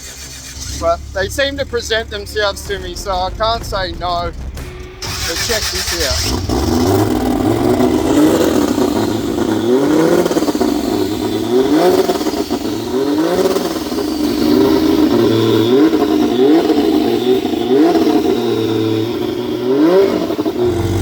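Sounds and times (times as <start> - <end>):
boat engine revving: 0.0 - 21.0.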